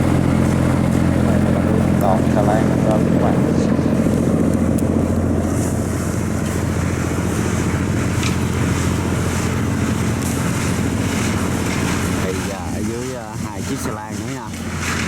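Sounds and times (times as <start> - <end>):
barge diesel engine droning: 0.0 - 15.0.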